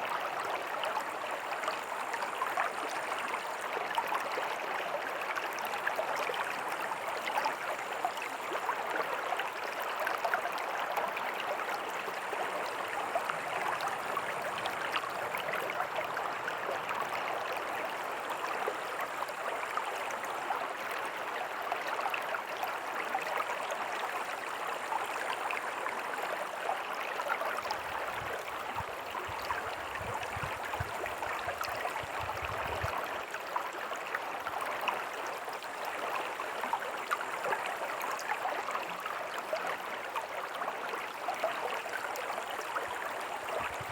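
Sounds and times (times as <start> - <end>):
stream running and burbling: 0.0 - 43.9.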